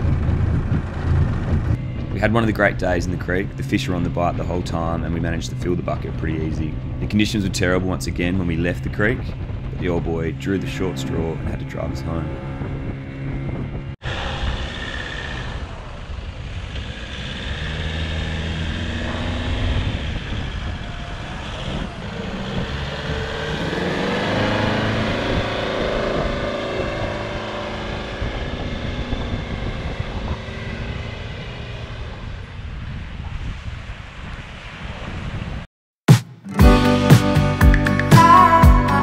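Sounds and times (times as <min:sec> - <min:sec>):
truck engine under load: 0:00.0 - 0:33.3
wind buffeting microphone: 0:00.0 - 0:35.7.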